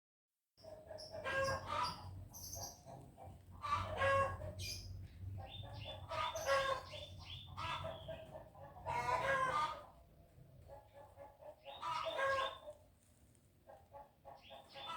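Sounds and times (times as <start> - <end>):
chickens clucking: 0.6 - 12.9, 13.5 - 14.9.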